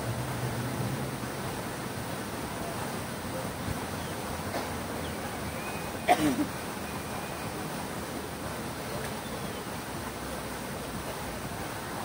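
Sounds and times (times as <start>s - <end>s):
fountain water running: 0.0s - 12.0s.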